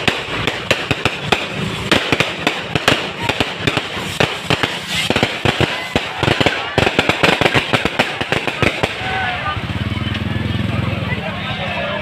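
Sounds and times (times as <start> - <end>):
fireworks crackle: 0.0 - 10.3
fireworks bangs: 0.0 - 10.6.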